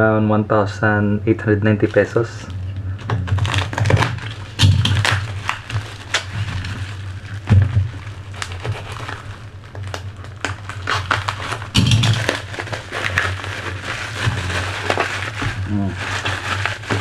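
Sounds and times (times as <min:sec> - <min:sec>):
packaging rustling and scraping: 0:00.9 - 0:17.0.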